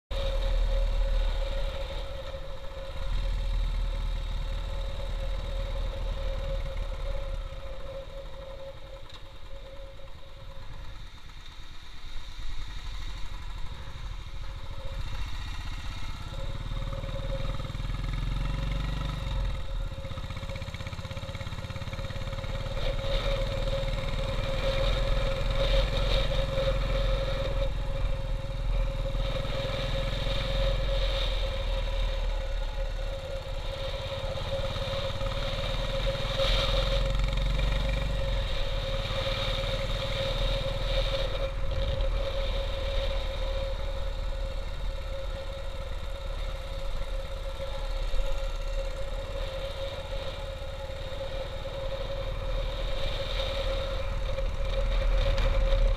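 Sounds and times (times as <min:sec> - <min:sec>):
motorcycle engine running: 0:00.1 - 0:55.9.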